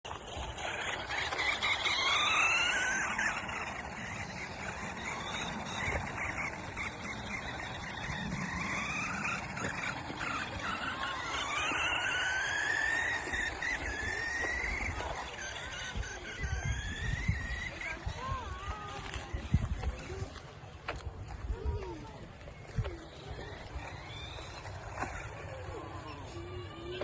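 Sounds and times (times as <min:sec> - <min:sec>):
rc car motor whining: 0:00.1 - 0:27.0.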